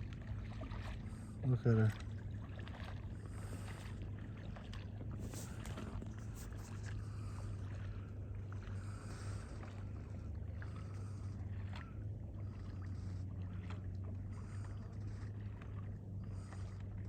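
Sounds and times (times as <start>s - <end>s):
steady low hum: 0.0s - 17.0s
water lapping against kayak hull: 0.0s - 17.0s.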